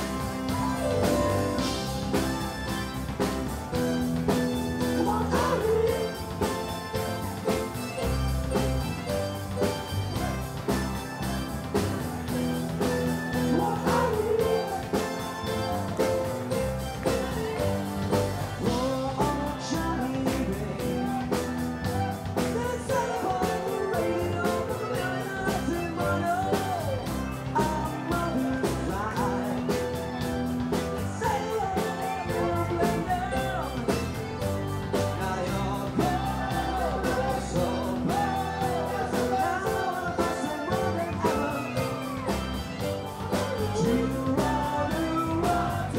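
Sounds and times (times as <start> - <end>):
bass guitar: 0.0 - 45.9
drum kit beat: 0.0 - 45.9
electric guitars: 0.0 - 45.9
lead vocal singing: 0.0 - 45.9.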